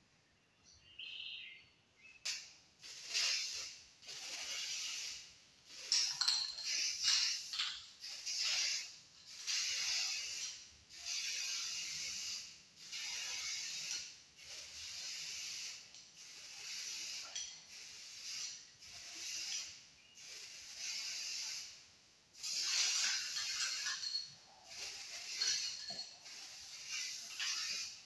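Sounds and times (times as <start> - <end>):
aerosol spray can hissing: 2.3 - 21.8, 22.4 - 24.1, 24.7 - 28.0.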